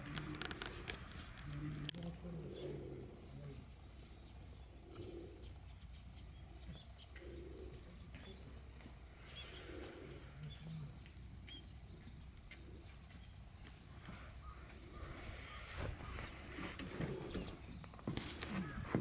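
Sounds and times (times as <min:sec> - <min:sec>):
dove cooing: 0:00.0 - 0:13.3, 0:14.1 - 0:17.9, 0:18.6 - 0:19.0
small birds chirping: 0:00.0 - 0:19.0.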